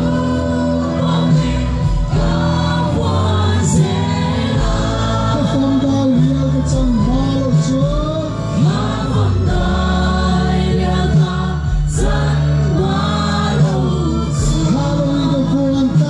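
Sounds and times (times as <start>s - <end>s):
amplified gospel band: 0.0s - 16.0s
crowd singing along: 0.0s - 16.0s.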